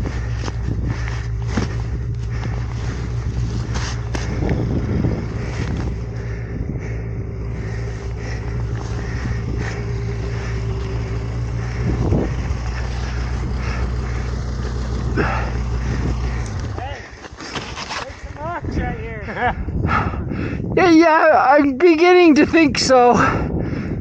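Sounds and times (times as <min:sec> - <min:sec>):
snowmobile engine running: 0:00.0 - 0:24.0.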